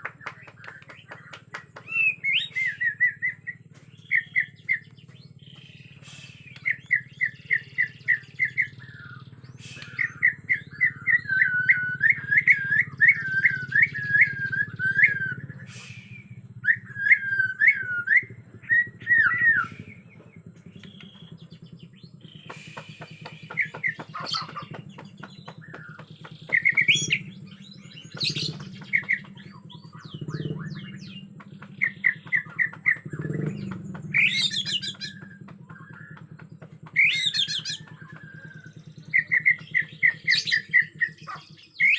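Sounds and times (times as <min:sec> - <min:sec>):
songbird chirping and whistling: 0:00.0 - 0:41.9
steady low hum: 0:00.0 - 0:41.9.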